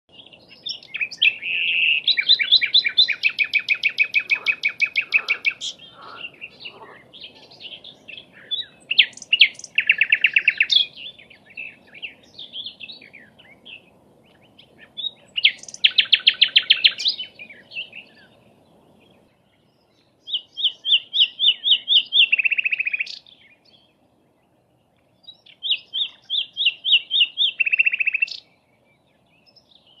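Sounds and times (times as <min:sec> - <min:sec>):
bird singing fast trills: 0:00.1 - 0:24.4, 0:25.2 - 0:30.0.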